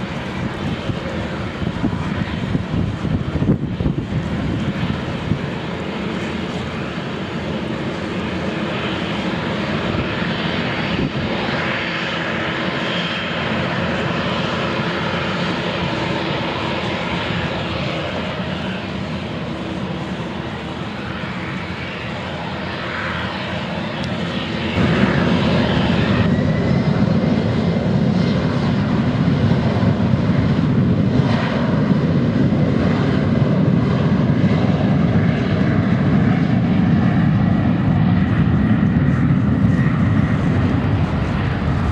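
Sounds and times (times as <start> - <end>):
jet engines running: 0.0 - 41.9
rising jet engine whine: 0.0 - 41.9.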